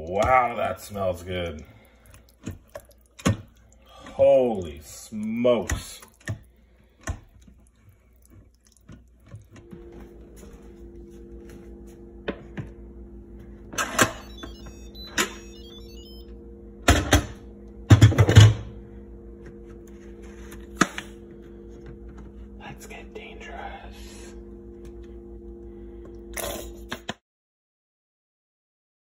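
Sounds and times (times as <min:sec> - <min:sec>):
electrical appliance hum: 0:00.0 - 0:27.2.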